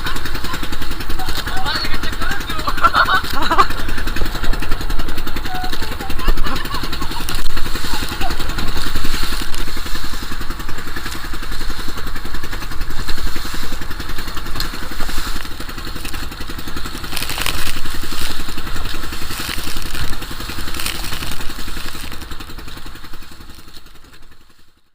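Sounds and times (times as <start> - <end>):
boat engine running: 0.0 - 24.9
water noise: 2.9 - 23.4.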